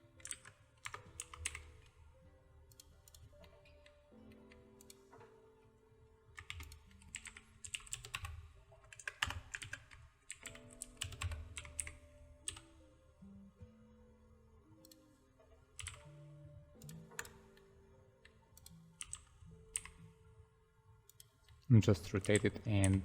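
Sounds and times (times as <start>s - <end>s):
keyboard keystrokes and clicks: 0.0s - 13.0s, 14.8s - 20.3s, 21.0s - 23.0s
faint background music: 0.0s - 23.0s.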